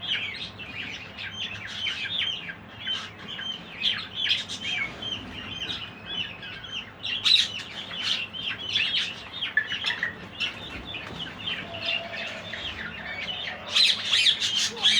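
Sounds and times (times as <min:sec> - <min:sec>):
budgerigars chattering: 0:00.0 - 0:14.9.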